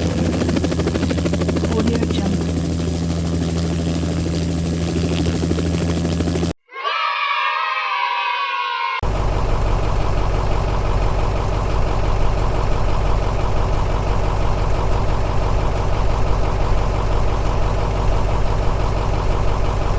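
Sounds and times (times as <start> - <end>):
engine idling: 0.0 - 6.5, 9.0 - 19.9.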